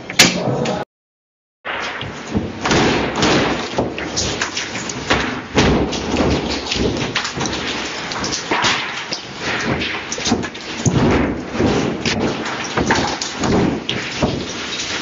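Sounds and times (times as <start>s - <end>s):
building rumbling and rattling: 1.7s - 15.0s
plaster chunks falling on floor: 1.7s - 15.0s.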